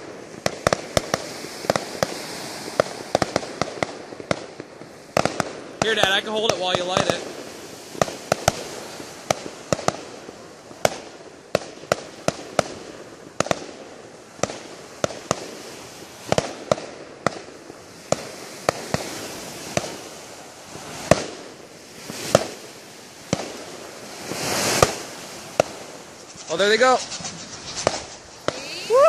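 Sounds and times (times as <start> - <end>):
fireworks bangs and cracks: 0.0 - 29.0
heavy fireworks booms: 0.0 - 29.0.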